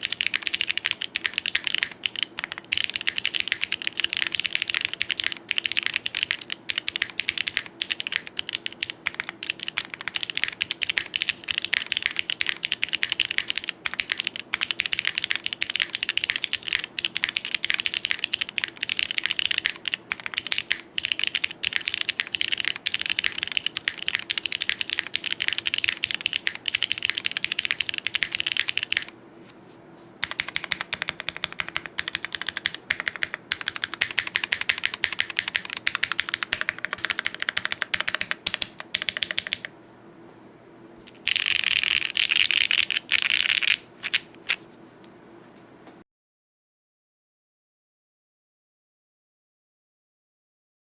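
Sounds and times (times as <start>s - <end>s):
fast mechanical keyboard typing: 0.0s - 29.2s, 30.2s - 39.8s, 41.2s - 44.6s.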